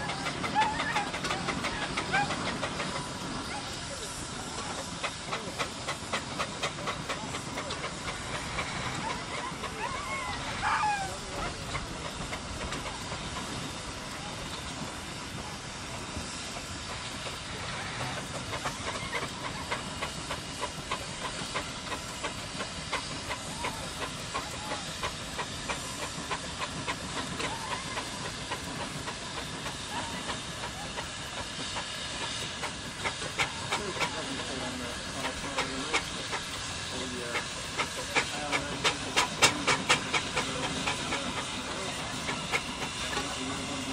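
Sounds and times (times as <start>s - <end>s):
steady steam hiss: 0.0s - 43.9s
steam traction engines working: 0.0s - 43.9s.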